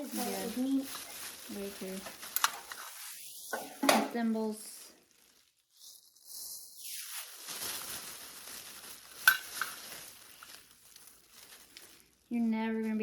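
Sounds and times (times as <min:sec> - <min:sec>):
rustling of handled objects: 0:00.0 - 0:13.0.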